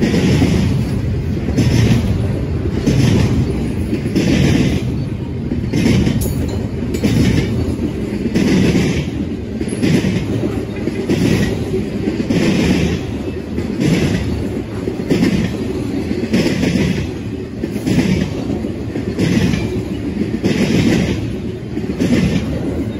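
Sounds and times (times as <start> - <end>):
freight train rumble: 0.0 - 22.9
train wheels clattering: 0.0 - 22.9.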